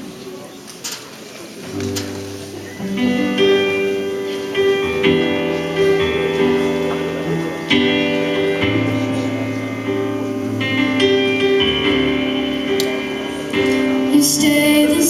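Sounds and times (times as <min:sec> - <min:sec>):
sustained instrumental chords: 0:02.2 - 0:15.0.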